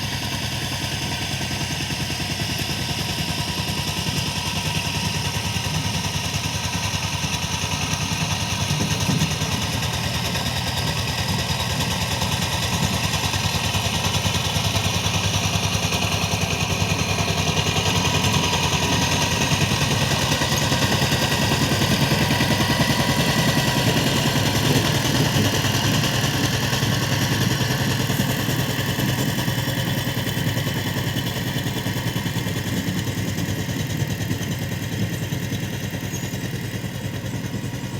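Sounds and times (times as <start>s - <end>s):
power tiller engine running: 0.0s - 37.9s.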